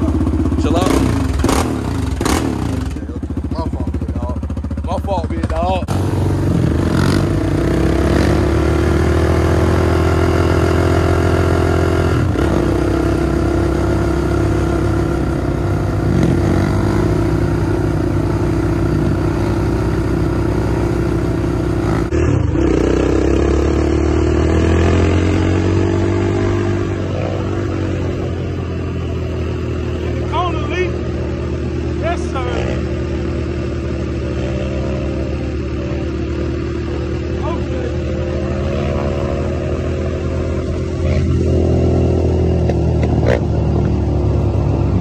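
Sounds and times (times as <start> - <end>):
dirt bike engine idling: 0.0 - 45.0.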